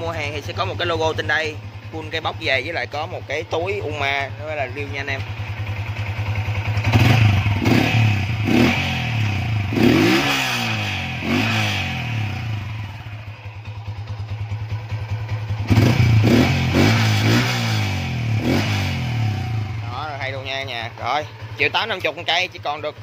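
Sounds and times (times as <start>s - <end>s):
motorcycle engine revving over idle: 0.0s - 23.0s.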